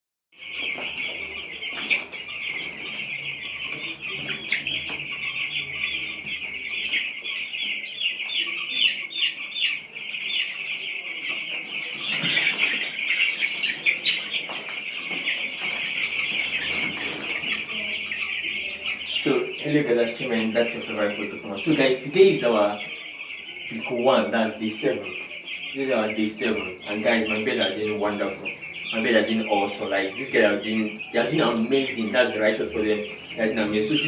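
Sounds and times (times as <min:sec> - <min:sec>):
chicks peeping: 0:00.3 - 0:34.0.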